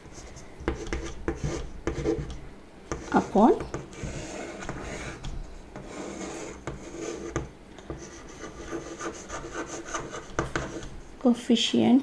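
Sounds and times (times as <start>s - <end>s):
chalk scraping on blackboard: 0.0s - 2.3s, 2.9s - 10.9s
chalk tapping on board: 0.6s - 10.9s.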